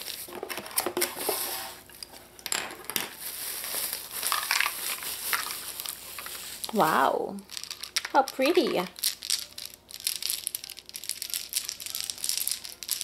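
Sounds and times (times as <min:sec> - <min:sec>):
bubble wrap crinkling: 0:00.0 - 0:02.2, 0:03.1 - 0:13.0.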